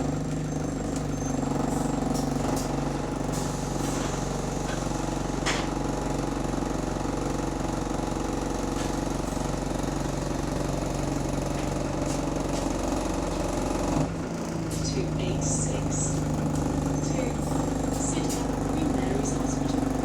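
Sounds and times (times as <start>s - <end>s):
bus diesel engine knocking: 0.0s - 20.0s.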